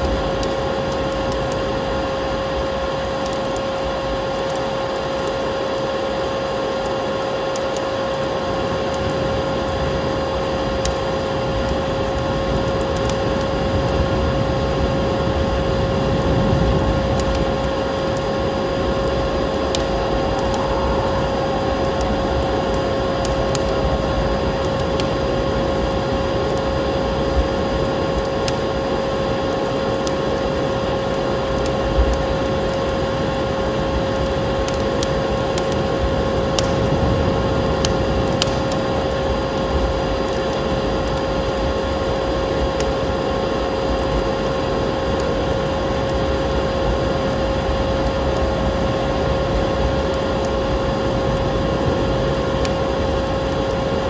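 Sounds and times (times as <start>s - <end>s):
noisy droning hum: 0.0s - 54.0s
wood fire crackling: 0.0s - 54.0s.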